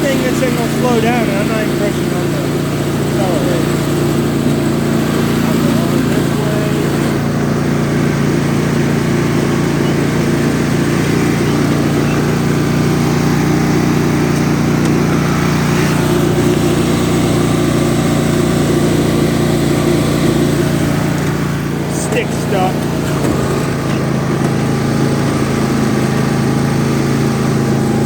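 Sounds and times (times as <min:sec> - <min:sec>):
lawn tractor engine running: 0:00.0 - 0:28.0.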